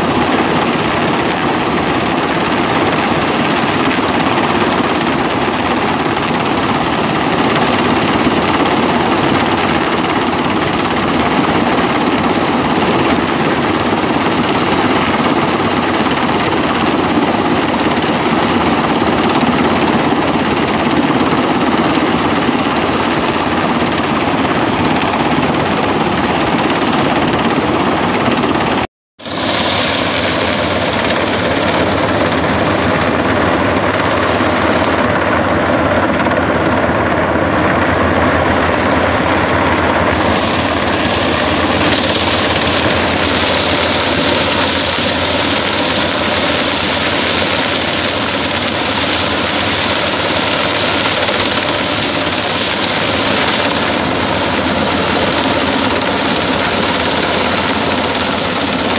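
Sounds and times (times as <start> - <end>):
helicopter rotor and turbine: 0.0 - 58.9.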